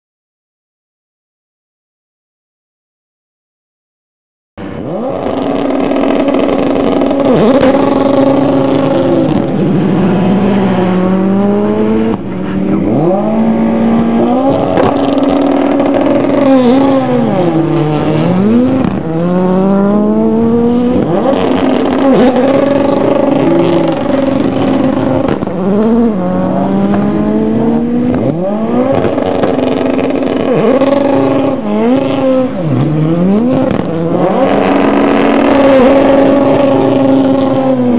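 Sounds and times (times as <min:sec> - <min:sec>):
engines shifting gear: 0:04.6 - 0:37.9
race cars passing at speed: 0:04.6 - 0:37.9.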